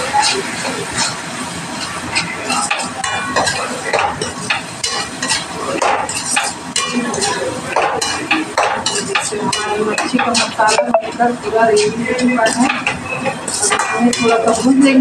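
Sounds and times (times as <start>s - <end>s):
masala sizzling in oil: 0.0s - 15.0s.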